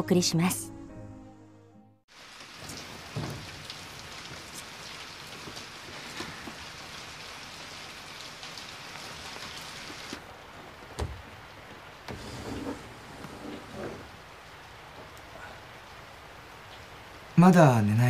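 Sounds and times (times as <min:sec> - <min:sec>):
steady rain falling: 0:02.1 - 0:18.0.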